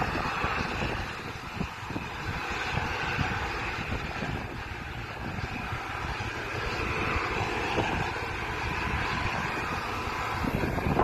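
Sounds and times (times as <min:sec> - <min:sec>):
faint steady whine: 0:00.0 - 0:11.0
harvest machinery droning: 0:00.0 - 0:11.0.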